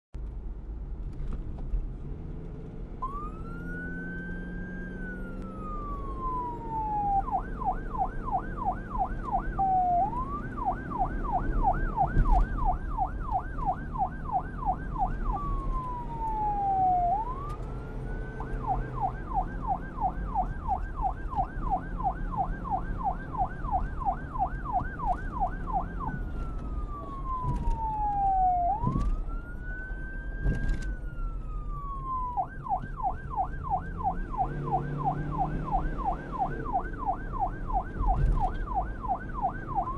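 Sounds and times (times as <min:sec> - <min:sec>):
police siren wailing and yelping: 0:03.0 - 0:39.9.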